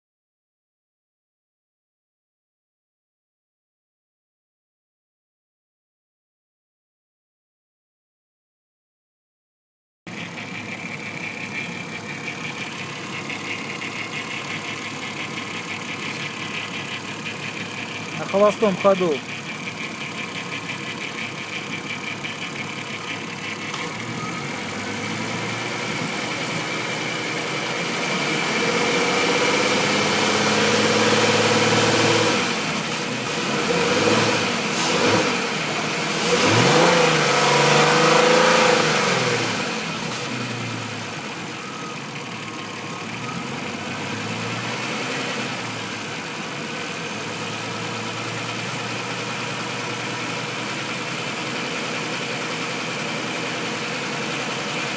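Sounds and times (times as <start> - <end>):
knocking engine idling and revving: 10.1 - 54.9.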